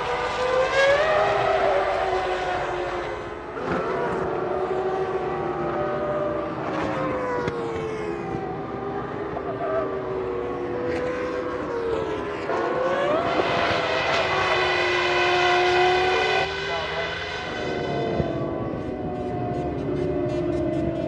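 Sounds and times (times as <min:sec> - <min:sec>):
racing car engines: 0:00.0 - 0:21.0.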